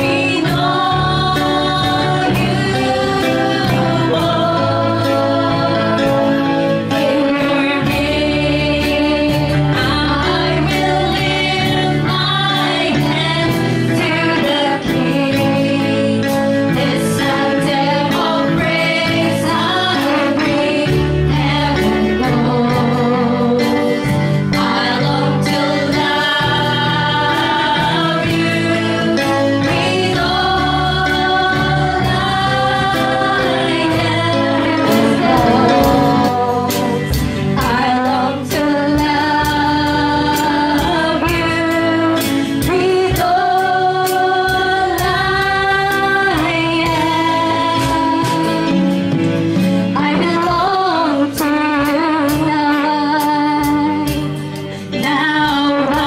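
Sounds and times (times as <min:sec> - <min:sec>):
instrumental accompaniment with beat: 0:00.0 - 0:56.0
voices singing worship song: 0:00.0 - 0:56.0.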